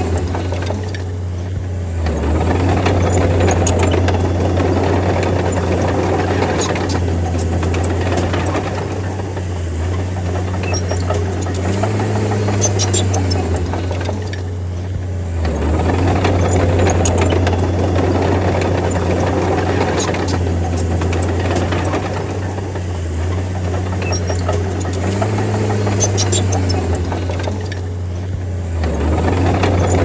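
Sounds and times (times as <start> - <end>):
bulldozer diesel engine running: 0.0 - 30.0
sharp clicks and clatter: 0.0 - 30.0.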